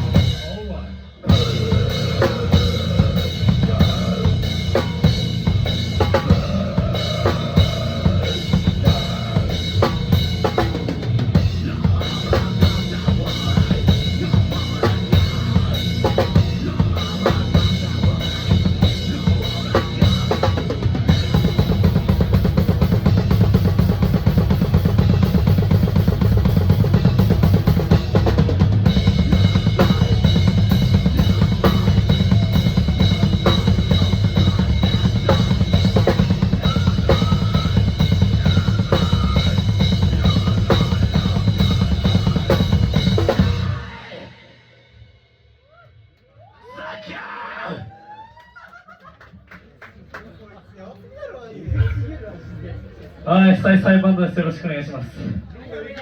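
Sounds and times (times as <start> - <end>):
drum kit played hard: 0.0 - 45.3.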